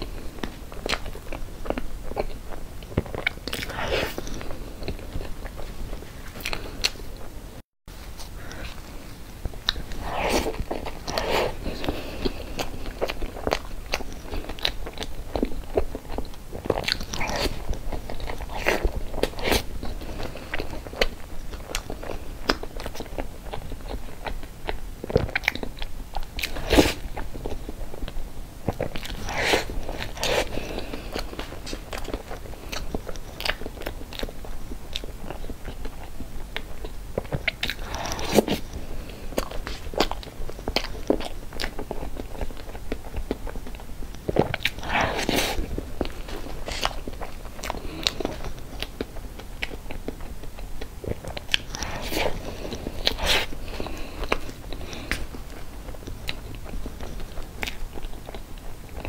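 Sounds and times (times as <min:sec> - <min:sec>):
person chewing wet mouth sounds: 0:00.0 - 0:07.1, 0:08.2 - 0:59.0.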